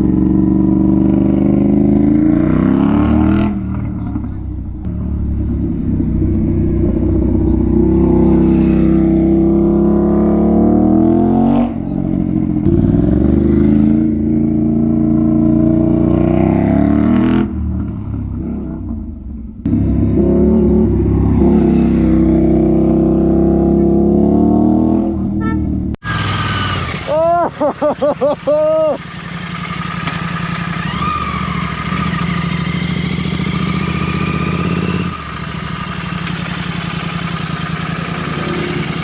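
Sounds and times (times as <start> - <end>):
motorcycle engine revving: 0.0 - 27.2, 29.0 - 39.0.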